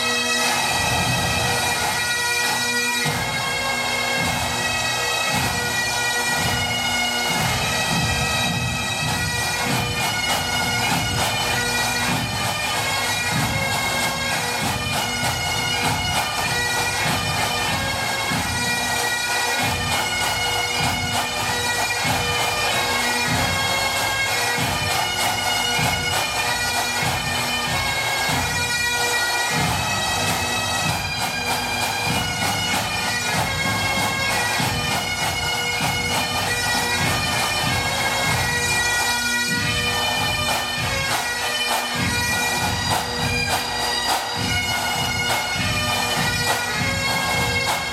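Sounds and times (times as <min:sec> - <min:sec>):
bagpipe drones: 0:00.0 - 0:47.9
bagpipes playing a tune: 0:00.0 - 0:47.9
drums beating low: 0:03.0 - 0:47.9.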